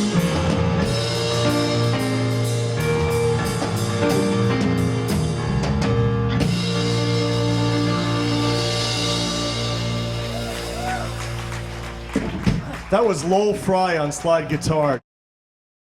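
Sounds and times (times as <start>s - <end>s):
drum kit: 0.0s - 13.9s.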